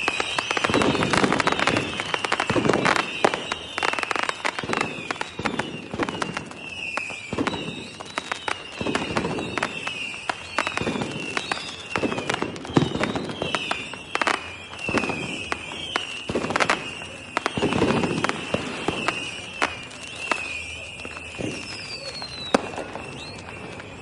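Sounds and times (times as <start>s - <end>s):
deep firework booms: 0.0s - 3.8s, 4.6s - 9.8s, 10.4s - 23.6s
firework whistle: 0.0s - 24.0s
fireworks cracking and banging: 0.0s - 24.0s.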